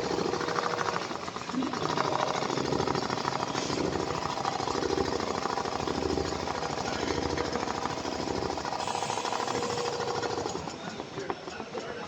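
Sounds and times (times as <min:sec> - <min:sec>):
sewing machine clattering: 0:00.0 - 0:12.0.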